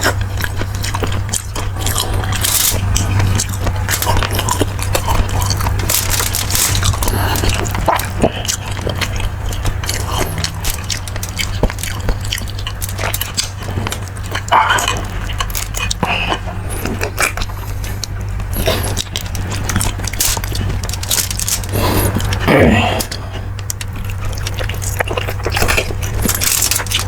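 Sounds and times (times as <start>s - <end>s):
low hum: 0.0s - 27.0s
person chewing with wet smacks: 0.0s - 27.0s.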